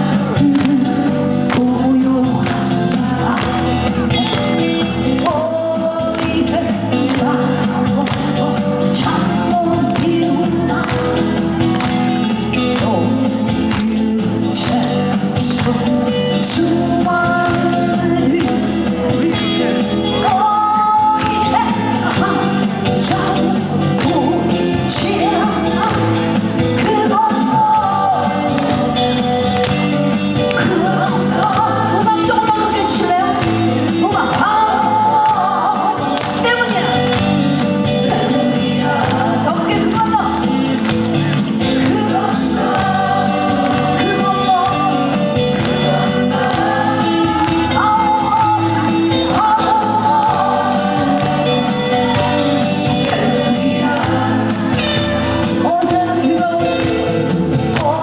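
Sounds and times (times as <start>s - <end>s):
instrumental pop music over speakers: 0.0s - 58.0s.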